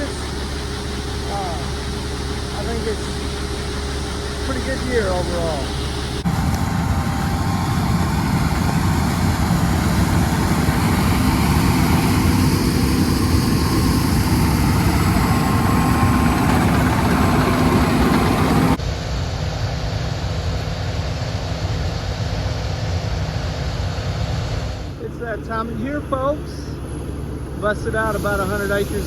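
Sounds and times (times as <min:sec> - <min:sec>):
combine harvester engine drone: 0:00.0 - 0:29.0.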